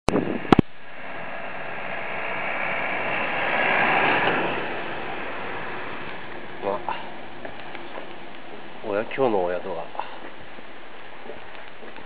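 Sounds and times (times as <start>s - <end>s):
van passing: 0.2s - 12.0s.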